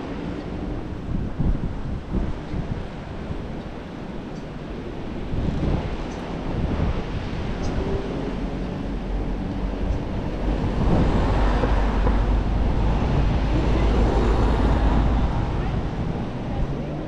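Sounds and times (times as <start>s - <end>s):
surf: 0.0s - 17.0s
wind buffeting the microphone: 0.0s - 17.0s.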